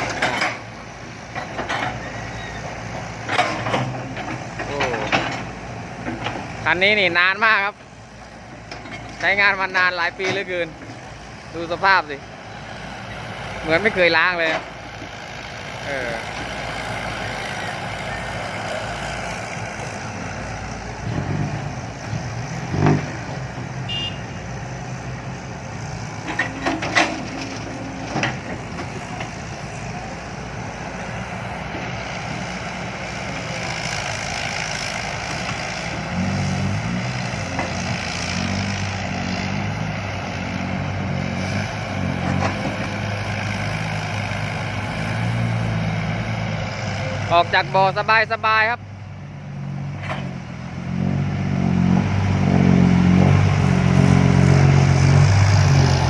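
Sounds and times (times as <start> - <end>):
dump truck engine running: 0.0 - 56.0.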